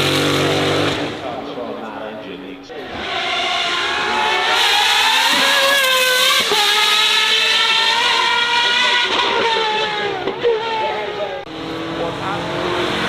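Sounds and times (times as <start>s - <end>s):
racing car engine accelerating: 0.0s - 1.4s, 2.8s - 13.0s.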